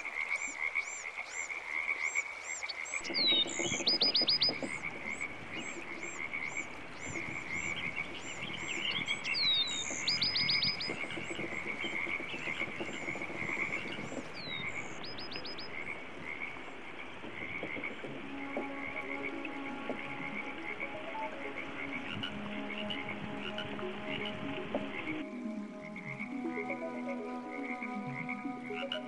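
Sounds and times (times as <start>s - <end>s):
frogs trilling: 0.0s - 29.0s.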